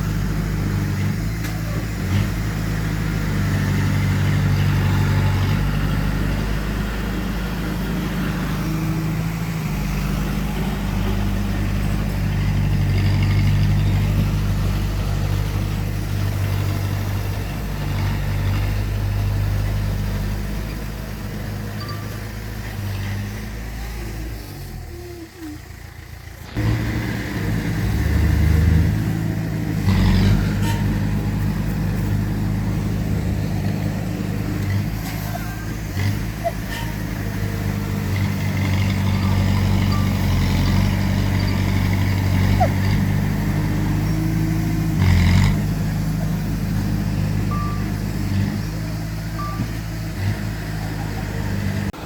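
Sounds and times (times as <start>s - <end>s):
heavy machinery diesel engine: 0.0s - 52.0s.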